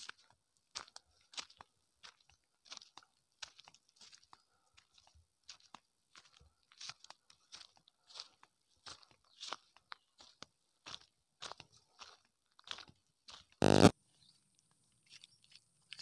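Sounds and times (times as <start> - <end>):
footsteps on stony path: 0.0 - 13.8.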